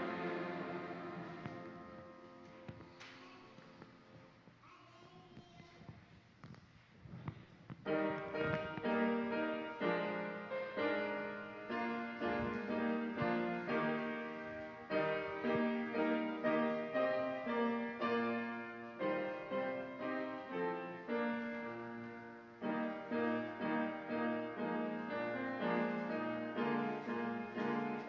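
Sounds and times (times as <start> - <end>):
grand piano chords: 0.0 - 4.1, 7.8 - 28.0.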